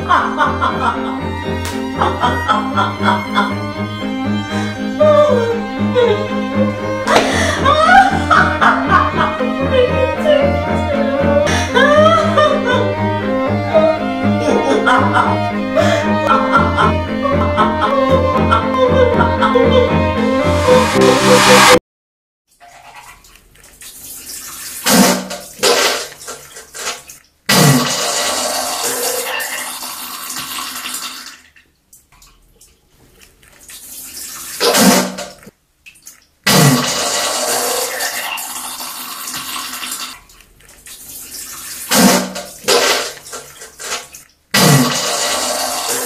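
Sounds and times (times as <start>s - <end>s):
toilet flushing: 0.0s - 21.7s, 23.8s - 31.6s, 33.7s - 35.5s, 36.5s - 46.0s.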